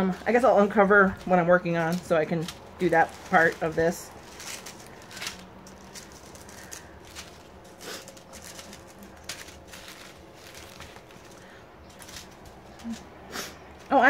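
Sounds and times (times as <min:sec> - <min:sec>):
plastic bags rustling and crinkling: 0:00.0 - 0:14.0.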